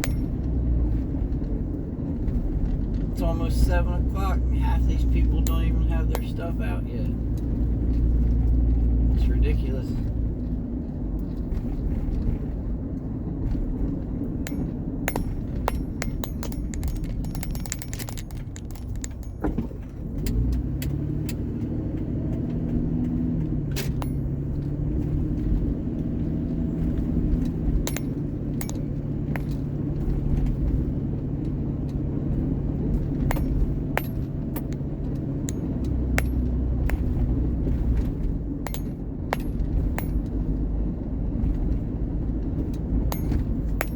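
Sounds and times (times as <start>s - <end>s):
loose items jingling in car: 0.0s - 8.7s, 13.1s - 43.9s
car engine and road rumble: 0.0s - 43.9s.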